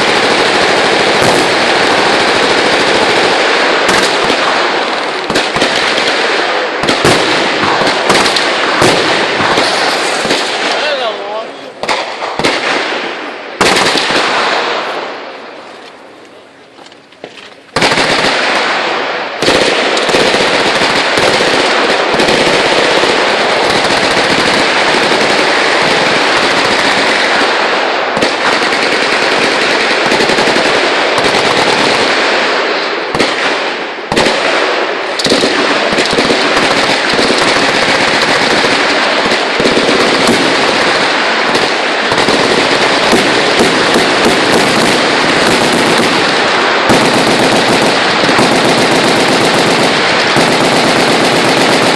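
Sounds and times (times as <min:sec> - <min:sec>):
automatic machine-gun fire: 0:00.0 - 0:11.1, 0:13.6 - 0:14.8, 0:17.8 - 0:51.9.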